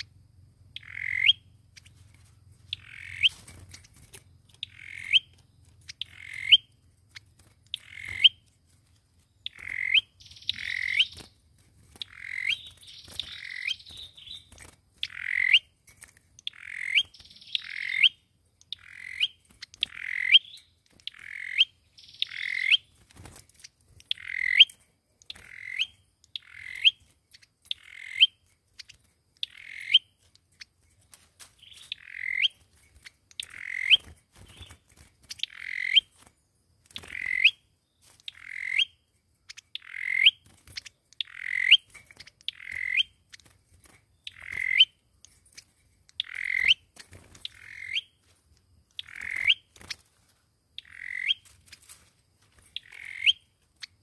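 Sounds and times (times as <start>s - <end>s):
bird calling: 0.0s - 8.5s, 9.4s - 15.8s, 16.4s - 23.0s, 24.0s - 30.7s, 31.5s - 36.2s, 36.9s - 43.5s, 44.2s - 45.0s, 45.6s - 48.2s, 48.9s - 50.1s, 50.8s - 54.0s.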